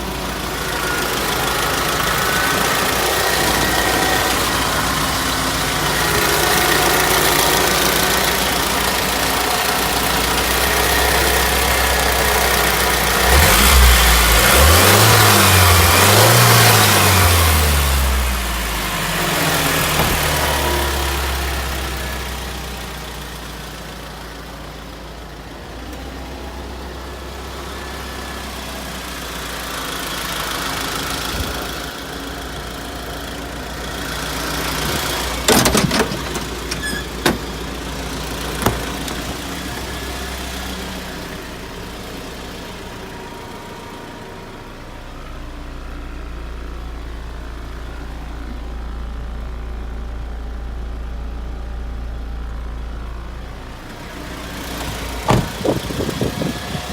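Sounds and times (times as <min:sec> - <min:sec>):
truck engine idling: 0:00.0 - 0:14.7, 0:17.3 - 0:56.9.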